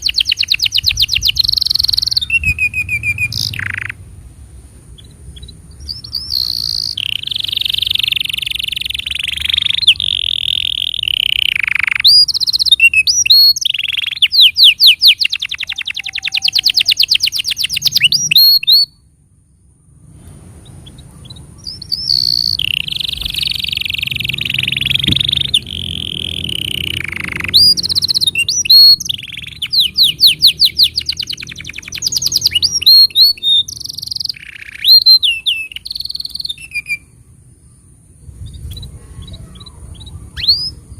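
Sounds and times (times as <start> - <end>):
canary singing trills: 0.0 - 4.2, 4.8 - 40.9.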